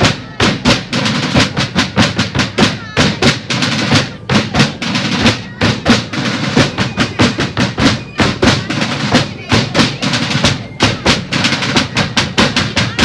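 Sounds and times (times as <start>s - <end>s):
bass drums: 0.0s - 13.0s
snare drums playing a cadence: 0.0s - 13.0s.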